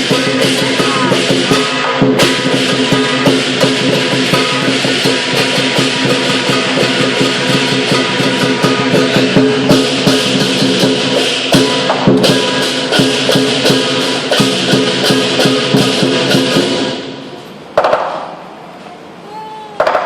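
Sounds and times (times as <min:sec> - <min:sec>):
gong ringing: 0:00.0 - 0:17.1
drum beating: 0:00.0 - 0:18.4, 0:19.3 - 0:20.0
cymbals clashing: 0:00.0 - 0:18.5.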